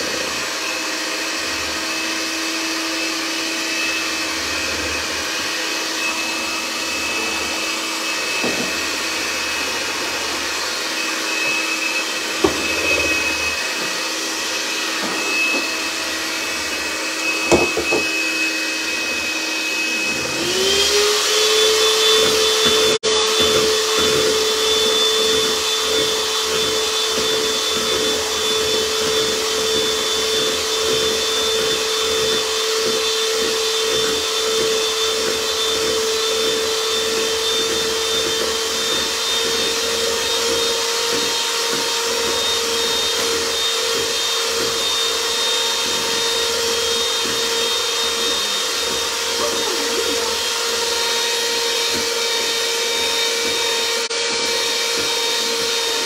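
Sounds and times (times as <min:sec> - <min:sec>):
electric hand mixer whine: 0:00.0 - 0:56.0.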